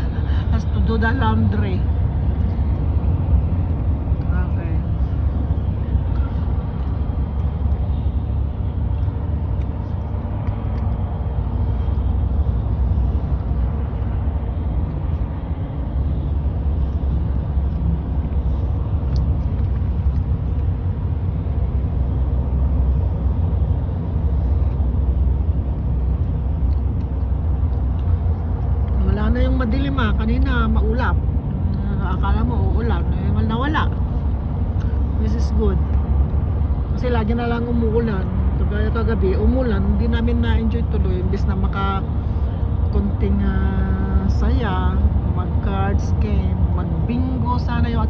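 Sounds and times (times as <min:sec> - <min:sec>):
vehicle cabin road rumble: 0:00.0 - 0:48.0.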